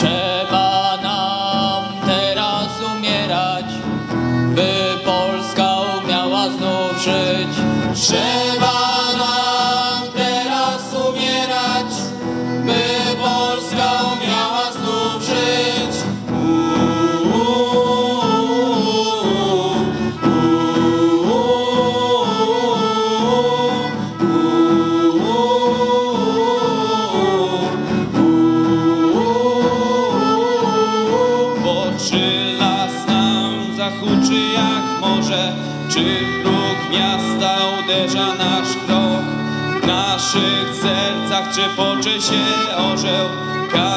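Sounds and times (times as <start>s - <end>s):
acoustic guitar: 0.0s - 43.9s
voices singing together: 4.6s - 43.9s.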